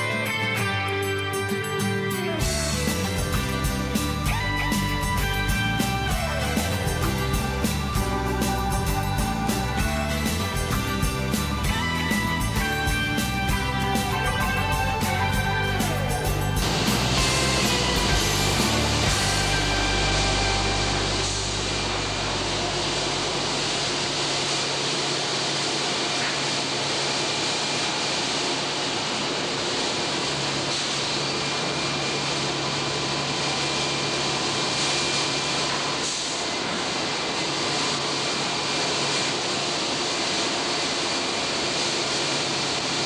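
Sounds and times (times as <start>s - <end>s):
faint machine whines: 0.0s - 43.0s
paper mill machinery roar: 2.4s - 43.0s.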